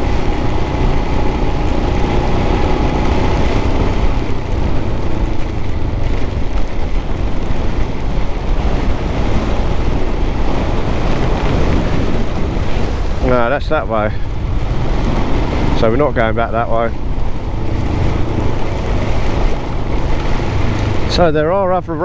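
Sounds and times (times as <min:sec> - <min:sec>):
motorcycle engine running: 0:00.0 - 0:22.0
wind buffeting on microphone: 0:00.0 - 0:22.0.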